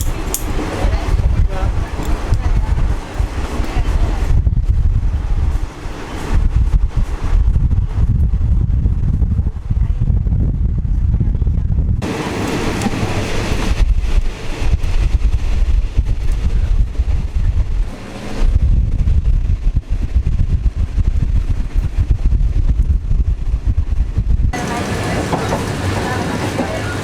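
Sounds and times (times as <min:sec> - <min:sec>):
rush of noise: 0:00.0 - 0:27.0
train carriage rumbling on track: 0:00.0 - 0:27.0
wind buffeting microphone: 0:00.0 - 0:27.0.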